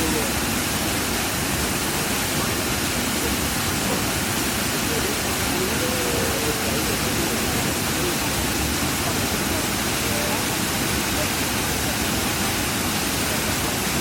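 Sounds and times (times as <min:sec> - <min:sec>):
waterfall rushing into pool: 0:00.0 - 0:14.0
faint distant voices: 0:01.6 - 0:14.0.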